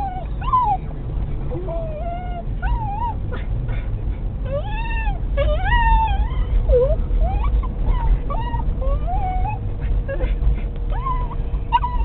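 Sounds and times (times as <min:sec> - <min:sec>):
dog whining and crying: 0:00.0 - 0:00.9, 0:01.5 - 0:03.8, 0:04.5 - 0:12.0
car rumbling: 0:00.0 - 0:12.0.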